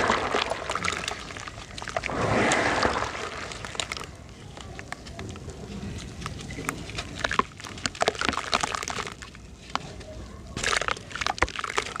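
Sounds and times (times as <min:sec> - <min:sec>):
cement chunks crunching: 0:00.0 - 0:12.0.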